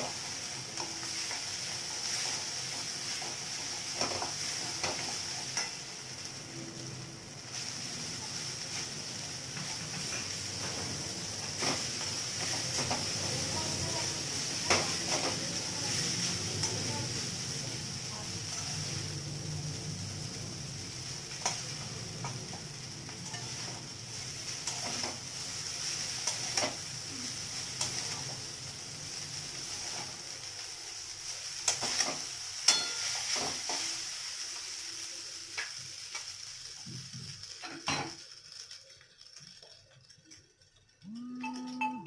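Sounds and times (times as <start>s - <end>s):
noodles sizzling in wok: 0.0s - 41.2s.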